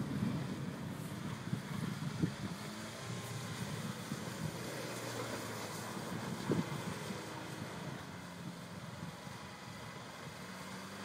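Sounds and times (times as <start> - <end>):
faint car engine hum: 0.0 - 11.0.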